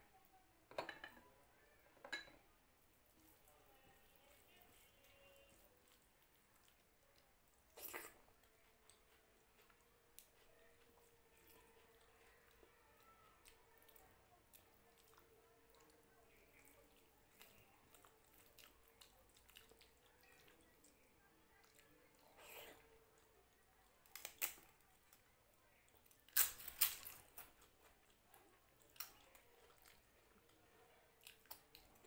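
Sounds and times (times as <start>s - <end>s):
food squishing under fingers: 2.8s - 32.0s.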